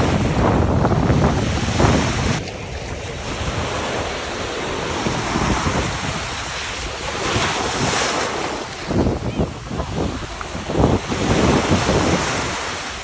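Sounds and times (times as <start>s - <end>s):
sea waves washing on shore: 0.0s - 13.0s
wind rumbling on microphone: 0.0s - 13.0s.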